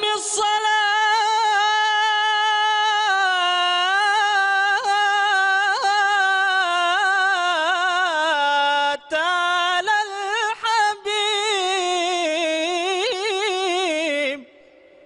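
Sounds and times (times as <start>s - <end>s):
man singing unaccompanied: 0.0s - 14.6s.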